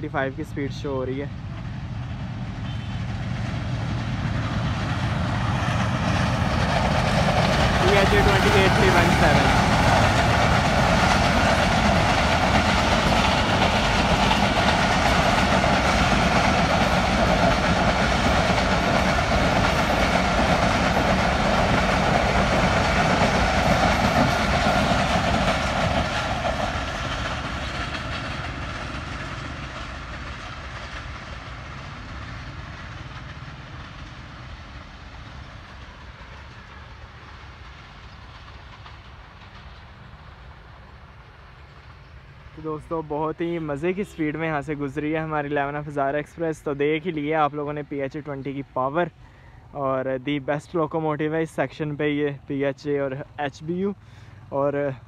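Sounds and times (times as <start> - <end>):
train passing on rails: 0.0 - 55.0.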